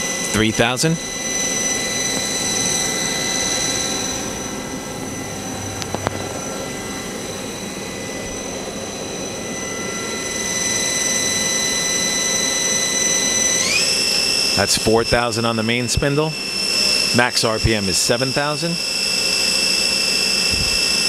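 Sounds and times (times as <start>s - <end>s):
lathe spindle high whine: 0.0s - 21.0s.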